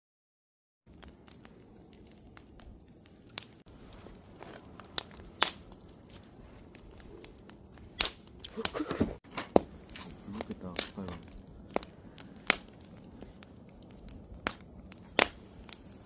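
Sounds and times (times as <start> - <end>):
low hiss of fire: 0.9 - 16.0
wood fire popping: 0.9 - 16.0.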